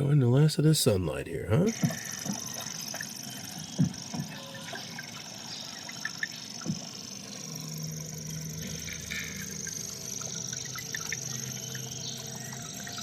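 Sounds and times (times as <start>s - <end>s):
low steady hum: 0.0s - 13.0s
steady high hiss: 0.0s - 13.0s.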